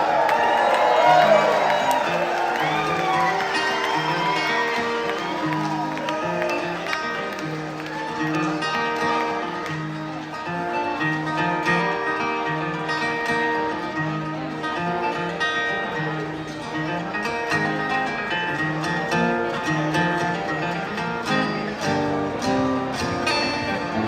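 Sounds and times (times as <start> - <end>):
acoustic guitar picking bluegrass: 0.0 - 24.0.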